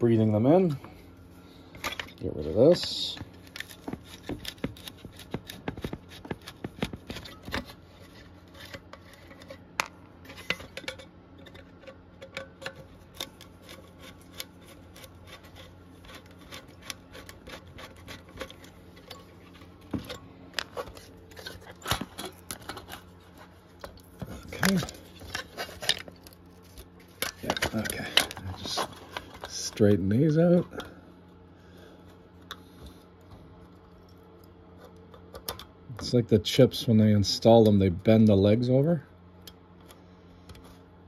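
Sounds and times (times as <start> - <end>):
faint electrical hum: 0.0 - 41.0.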